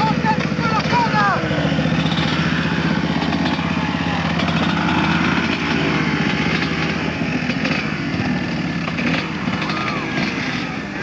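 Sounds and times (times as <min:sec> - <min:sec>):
dirt bike engine under load: 0:00.0 - 0:11.0.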